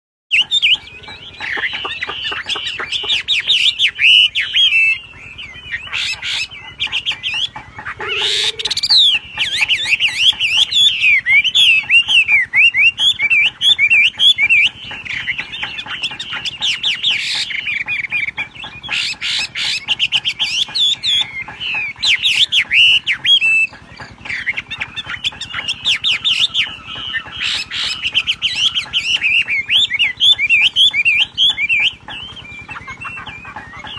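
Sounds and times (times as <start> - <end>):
songbird singing twittering phrases: 0.3 - 33.9.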